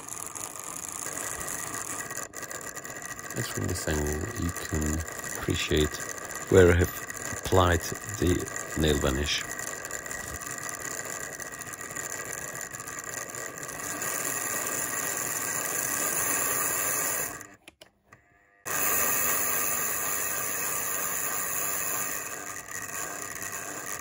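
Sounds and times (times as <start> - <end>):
small electric motor running: 0.0 - 17.6, 18.2 - 24.0.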